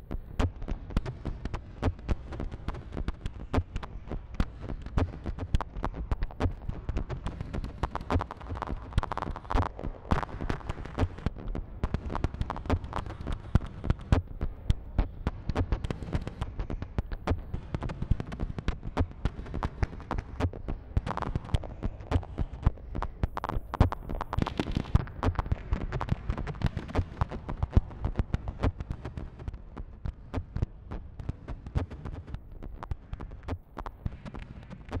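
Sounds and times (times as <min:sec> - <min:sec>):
synthesizer clicks and crackles: 0:00.0 - 0:35.0.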